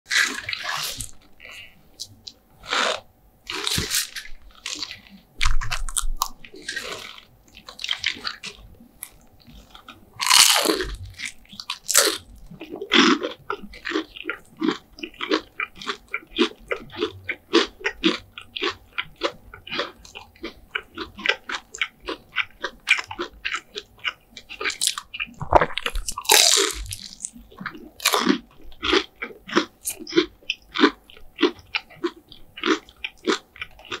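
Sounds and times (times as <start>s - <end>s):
crunching bites of fried chicken: 0.1s - 34.0s
crunchy chewing: 0.1s - 34.0s.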